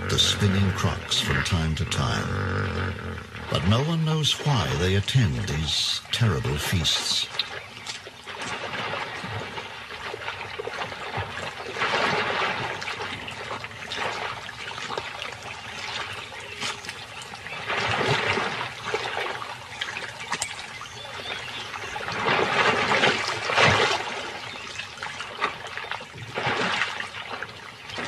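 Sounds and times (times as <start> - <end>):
muddy water splashing and sloshing: 0.0 - 28.0.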